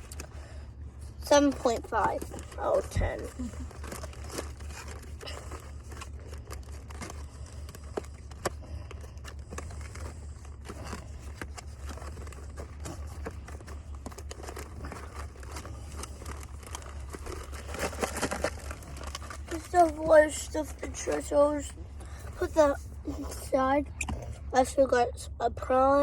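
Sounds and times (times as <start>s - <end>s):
packaging crinkling and rustling: 0.0s - 23.4s
steady low hum: 0.0s - 26.0s.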